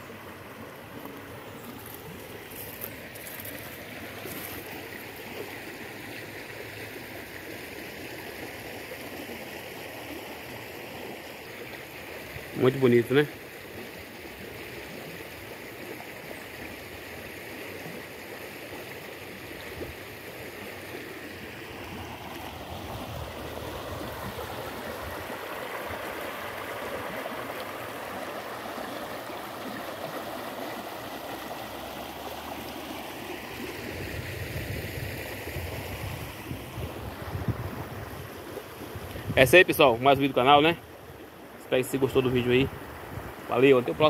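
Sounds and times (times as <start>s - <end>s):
stream rippling over rocks: 0.0s - 44.0s.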